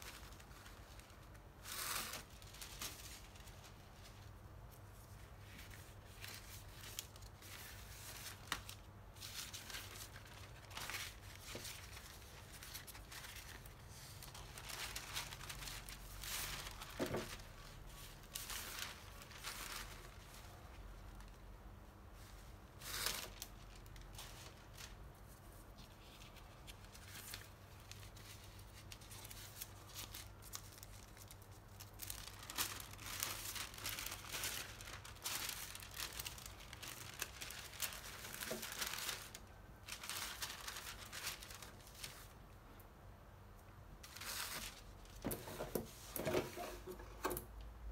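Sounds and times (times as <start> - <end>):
paper rustling and crinkling: 0.0 - 42.6, 44.0 - 47.5.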